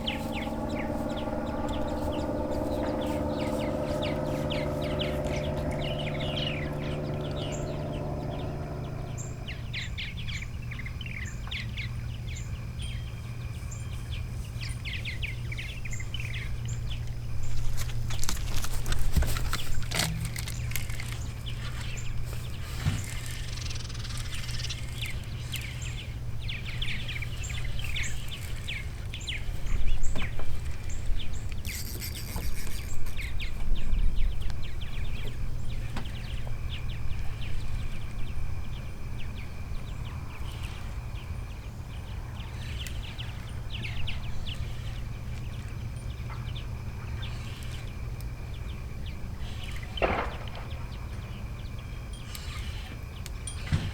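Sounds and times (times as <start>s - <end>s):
small birds chirping: 0.0s - 53.8s
steady low hum: 0.0s - 53.9s.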